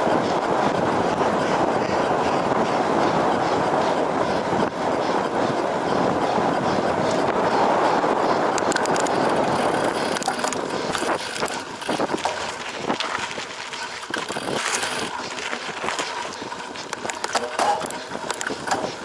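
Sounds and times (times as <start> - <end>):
bike rattling and knocking: 0.0 - 19.0
bike tyres rushing over rough ground: 0.0 - 19.0.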